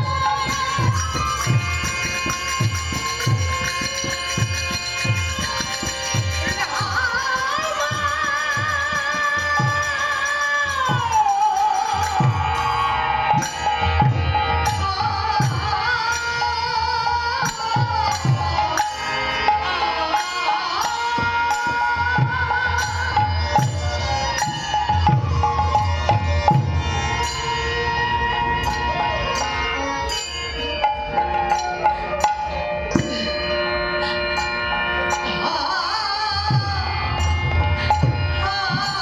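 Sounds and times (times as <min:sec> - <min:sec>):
sustained wavering melody: 0:00.0 - 0:39.0.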